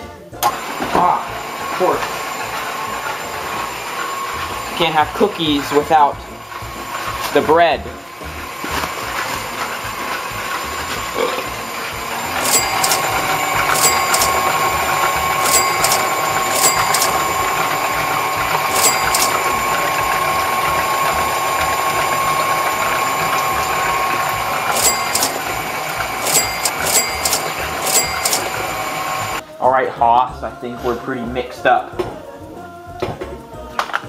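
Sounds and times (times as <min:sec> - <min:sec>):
stand mixer motor whining: 0:00.4 - 0:29.4.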